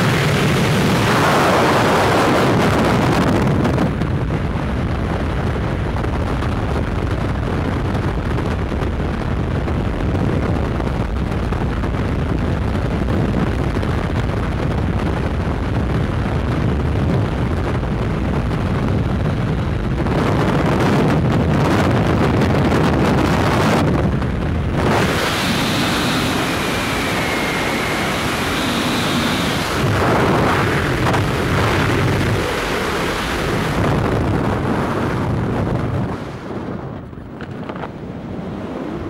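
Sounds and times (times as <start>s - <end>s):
wind rushing across microphone: 0.0s - 39.0s.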